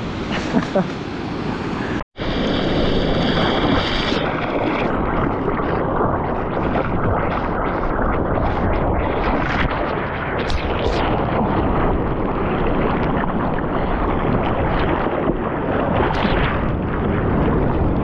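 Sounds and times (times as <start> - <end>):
seawater rushing: 0.0 - 18.0
wind buffeting microphone: 0.0 - 18.0.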